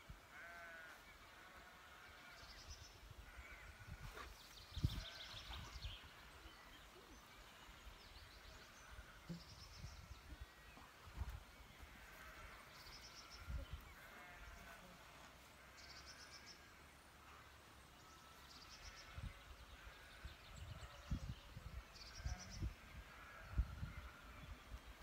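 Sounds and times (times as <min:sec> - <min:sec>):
songbirds trilling: 0:00.4 - 0:25.0.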